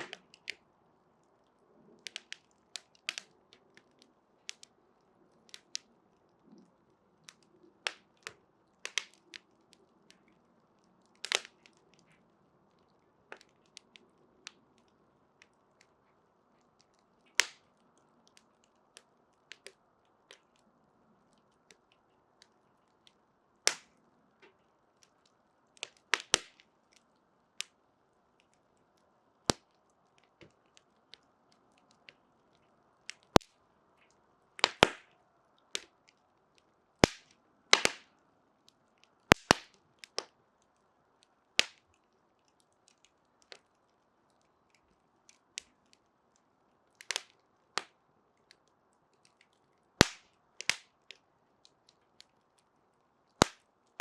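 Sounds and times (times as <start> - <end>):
burning wood crackling: 0.0 - 54.0.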